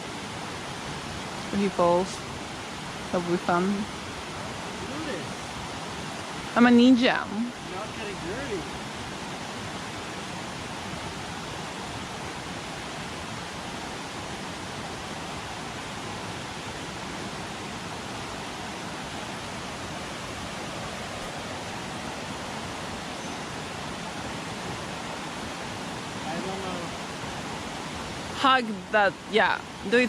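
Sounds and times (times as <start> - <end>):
rushing river water: 0.0 - 30.0.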